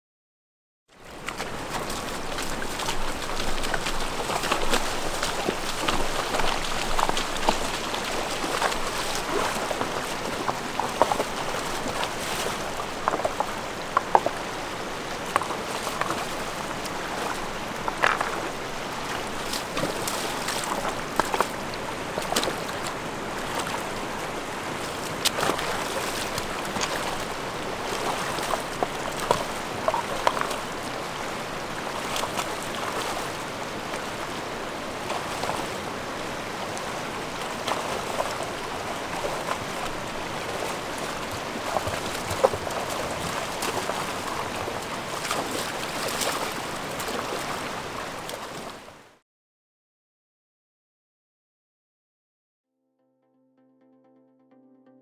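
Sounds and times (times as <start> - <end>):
feet wading through water: 1.0 - 48.9
river running over stones: 1.0 - 49.2.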